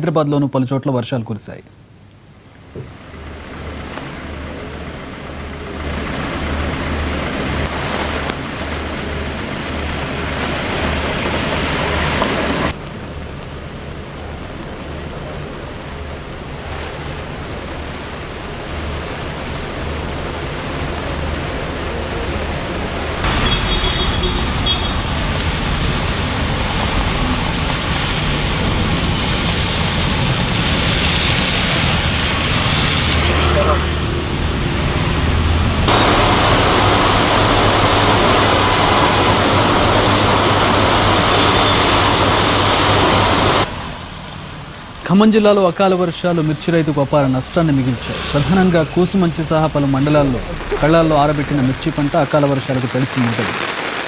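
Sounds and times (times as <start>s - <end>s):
rain hissing: 2.5s - 54.0s
traffic on wet road: 2.7s - 54.0s.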